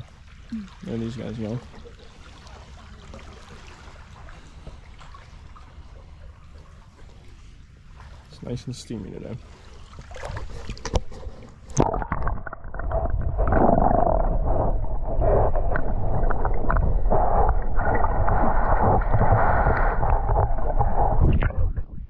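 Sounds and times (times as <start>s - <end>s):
muffled underwater rush: 0.0s - 22.0s.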